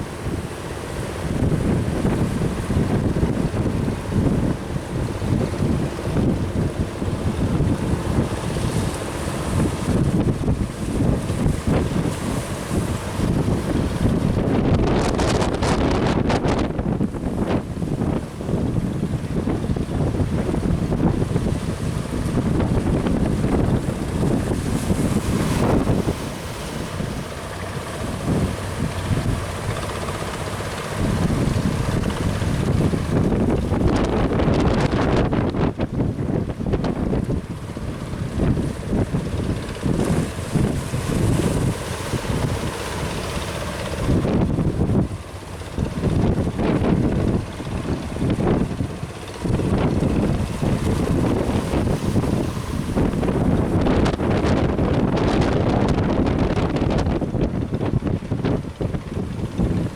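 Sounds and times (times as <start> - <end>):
waves washing: 0.0 - 59.9
wind buffeting microphone: 0.0 - 59.9.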